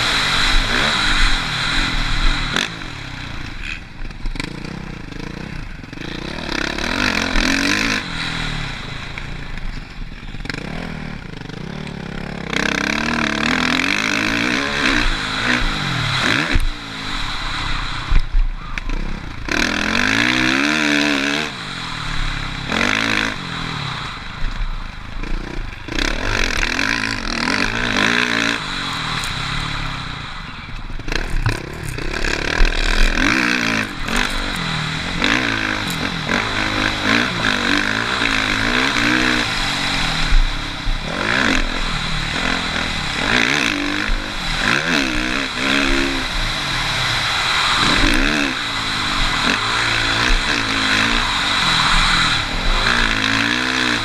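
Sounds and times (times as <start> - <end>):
motocross bike engine revving: 0.0 - 54.0
rush of wind and dirt: 0.0 - 54.0.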